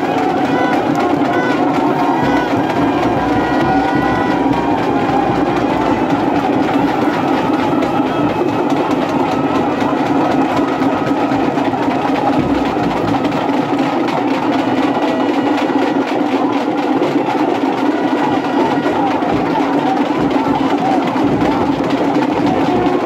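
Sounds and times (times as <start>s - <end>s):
crowd din: 0.0s - 23.0s
dense fast clatter: 0.0s - 23.0s.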